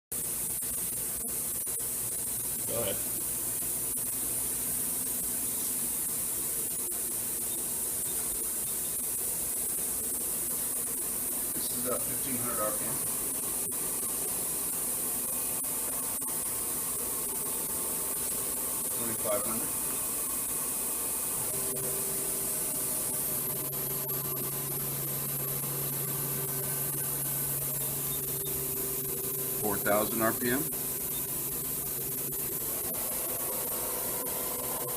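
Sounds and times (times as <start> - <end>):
constant hiss: 0.1 - 34.9
machining center humming: 0.1 - 34.9.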